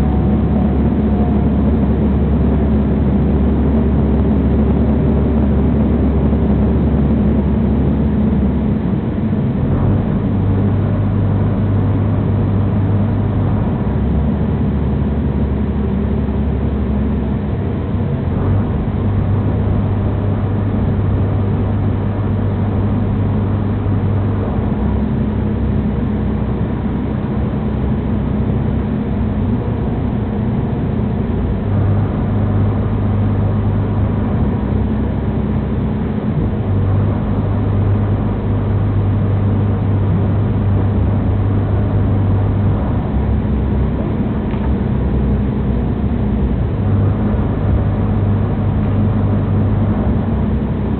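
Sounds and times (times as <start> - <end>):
low engine hum: 0.0 - 50.9
train running rumble: 0.0 - 50.9.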